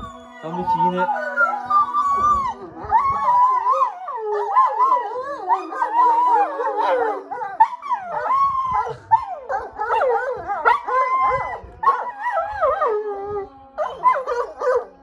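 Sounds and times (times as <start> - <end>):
dogs howling and whining: 0.0 - 15.0.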